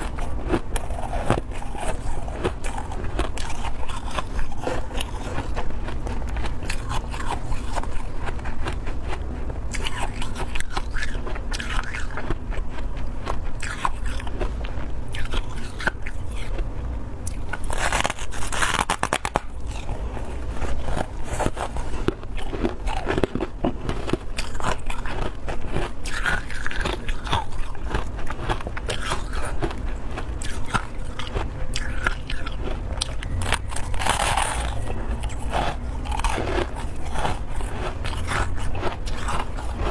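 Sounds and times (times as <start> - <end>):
crunchy chewing of frost: 0.0 - 39.9.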